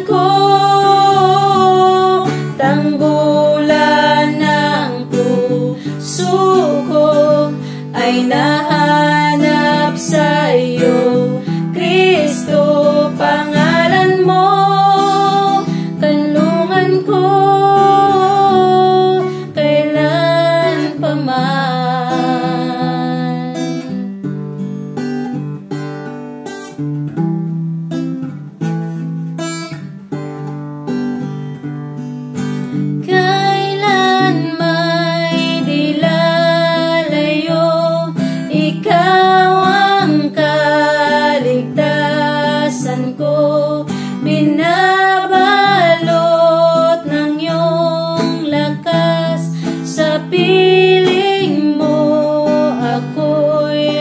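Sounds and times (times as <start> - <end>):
women singing: 0.0 - 24.1, 33.0 - 54.0
strummed acoustic guitar: 0.0 - 54.0.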